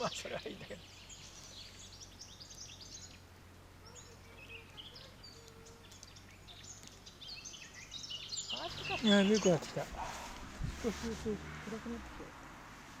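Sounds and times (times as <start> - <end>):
birds chirping and singing: 0.0 - 10.9.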